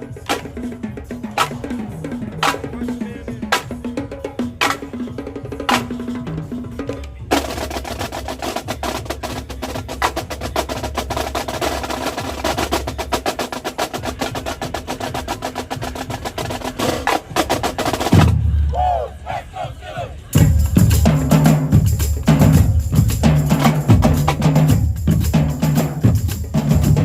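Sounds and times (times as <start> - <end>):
marching drumline cadence: 0.0 - 27.0.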